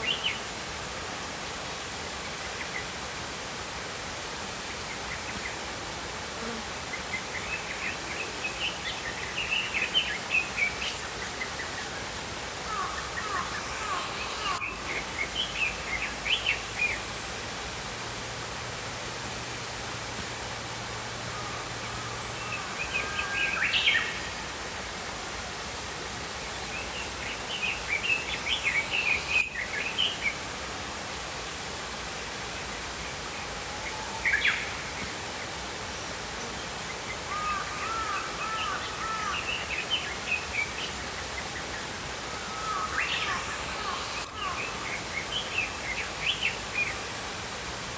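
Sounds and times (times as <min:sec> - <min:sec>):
stream flowing: 0:00.0 - 0:47.9.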